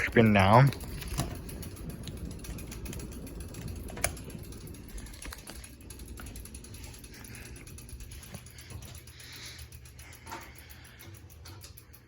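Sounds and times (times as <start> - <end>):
ceiling fan motor humming: 0.0 - 12.0
light ticking: 0.0 - 12.0.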